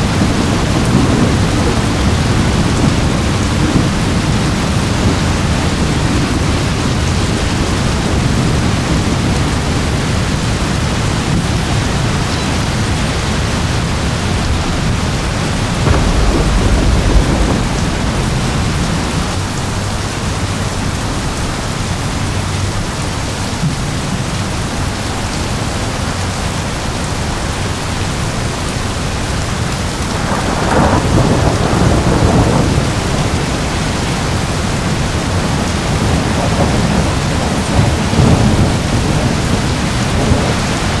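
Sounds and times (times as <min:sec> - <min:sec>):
rolling thunder: 0:00.0 - 0:21.5, 0:29.0 - 0:41.0
heavy rain: 0:00.0 - 0:41.0.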